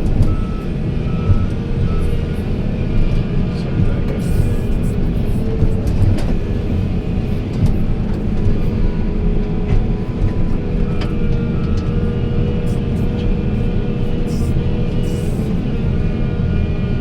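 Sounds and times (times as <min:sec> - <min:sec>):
heavy diesel machinery rumbling: 0:00.0 - 0:17.0.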